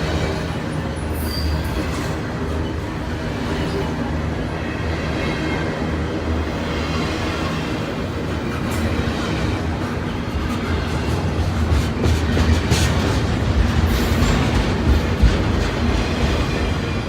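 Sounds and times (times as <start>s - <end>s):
freight train rumbling past: 0.0s - 17.0s
rail noise: 0.0s - 17.0s.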